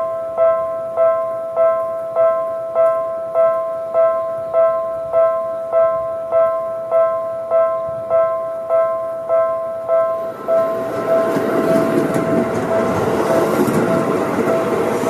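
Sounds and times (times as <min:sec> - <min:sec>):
level crossing bell ringing: 0:00.0 - 0:15.0.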